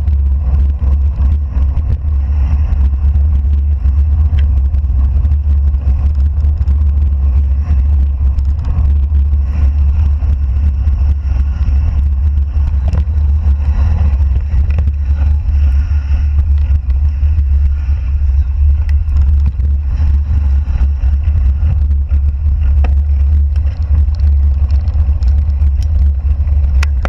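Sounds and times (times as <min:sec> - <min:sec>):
wind buffeting microphone: 0:00.0 - 0:27.0
bike clicks and rattles: 0:00.1 - 0:27.0.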